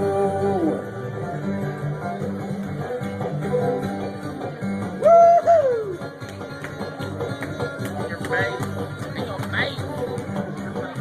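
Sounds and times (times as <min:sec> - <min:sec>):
acoustic string band: 0:00.0 - 0:11.0
guitar picking: 0:00.0 - 0:11.0.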